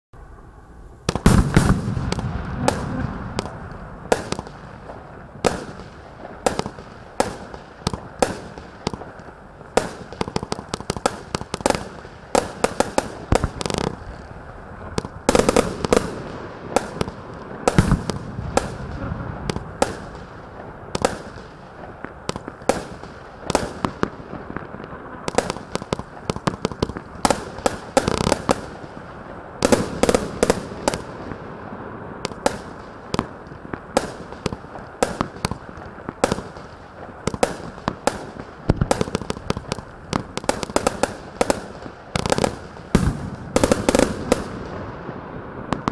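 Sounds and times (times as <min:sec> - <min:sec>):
steady hiss: 0:00.2 - 0:45.9
fireworks bangs: 0:01.0 - 0:45.9.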